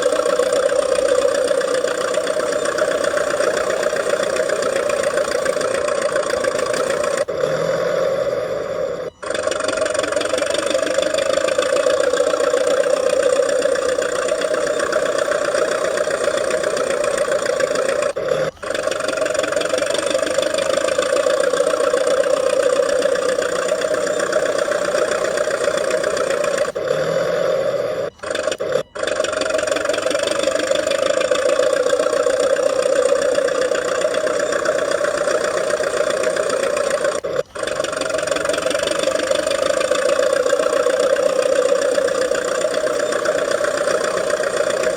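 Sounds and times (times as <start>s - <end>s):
toy bulldozer motor drone: 0.0s - 44.9s.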